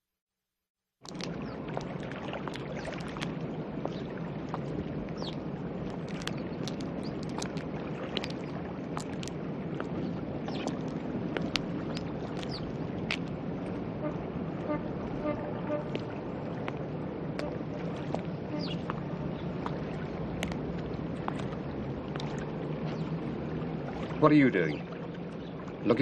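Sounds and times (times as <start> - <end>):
hum: 1.1 - 24.2.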